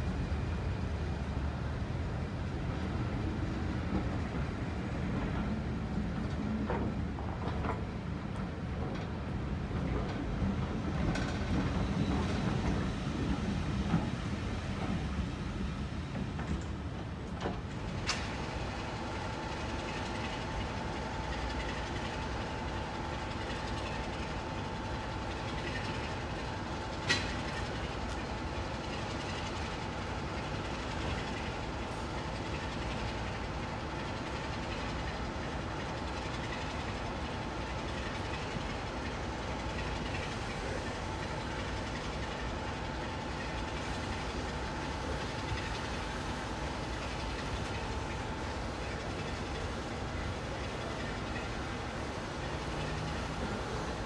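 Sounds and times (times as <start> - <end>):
distant locomotive hum: 0.0 - 54.0.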